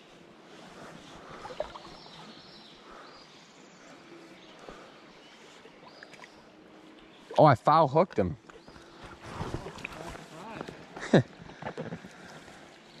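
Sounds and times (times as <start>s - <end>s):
river water flowing: 0.1s - 11.4s, 12.1s - 13.0s.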